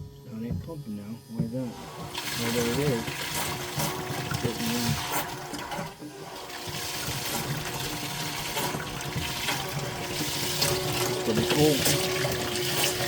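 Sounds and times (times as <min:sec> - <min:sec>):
faint pump motor hum: 0:00.0 - 0:13.0.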